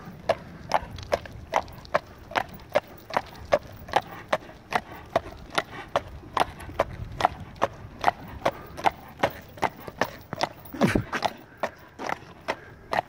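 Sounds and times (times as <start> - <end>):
horse hooves clip-clopping on asphalt: 0.0 - 13.0.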